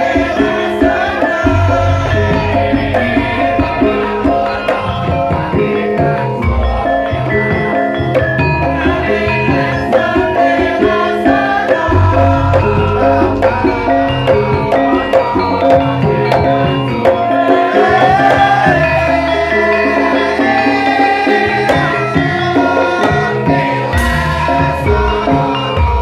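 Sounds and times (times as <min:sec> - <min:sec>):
traditional ensemble held melodic notes: 0:00.0 - 0:26.0.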